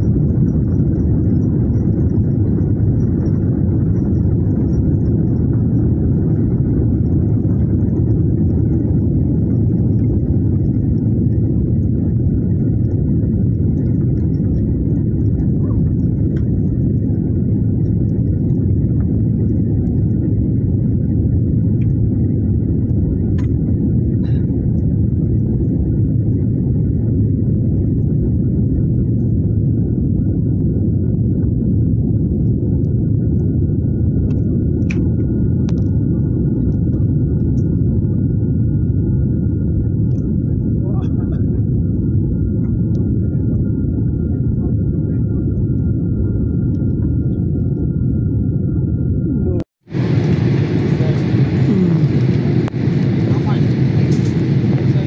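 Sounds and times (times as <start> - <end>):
jet engines roaring in cabin: 0.0 - 55.0.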